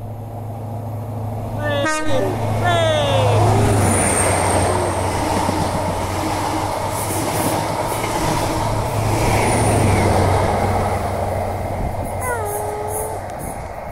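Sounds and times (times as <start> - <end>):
diesel train hum: 0.0 - 13.9
wheel and rail rumbling: 0.0 - 13.9.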